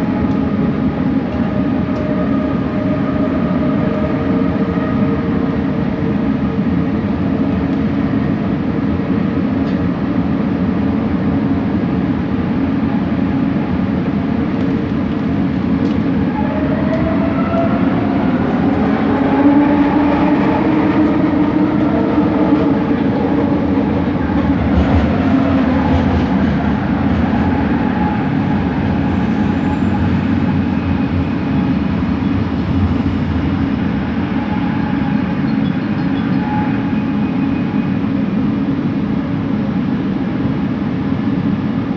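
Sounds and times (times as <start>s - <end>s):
train running noise: 0.0s - 41.9s.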